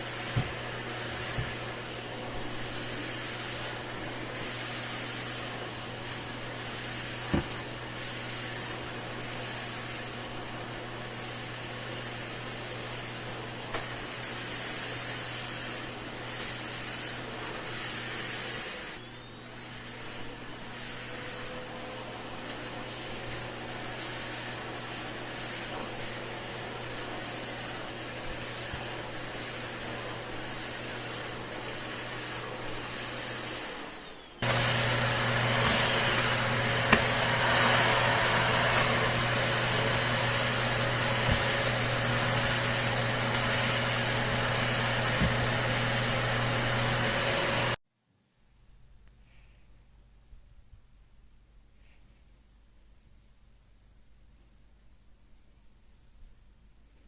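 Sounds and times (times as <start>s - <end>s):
vacuum cleaner running: 0.0s - 47.8s.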